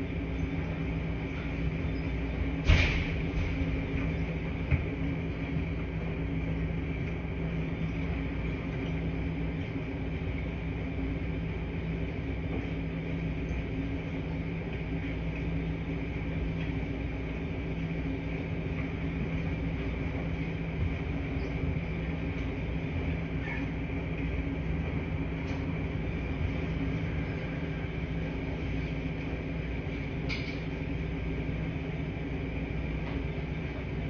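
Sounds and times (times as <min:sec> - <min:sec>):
laundry machines humming: 0:00.0 - 0:34.0.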